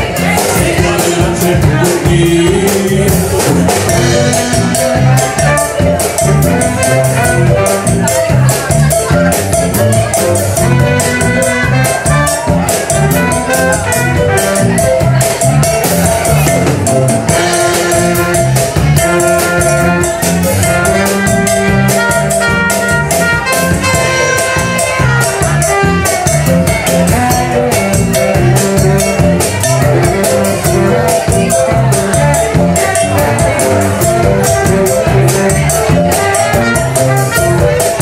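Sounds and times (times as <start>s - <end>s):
drum kit: 0.0s - 38.0s
electric guitar: 0.0s - 38.0s
hand percussion: 0.0s - 38.0s
keyboard: 0.0s - 38.0s
saxophone: 0.0s - 38.0s.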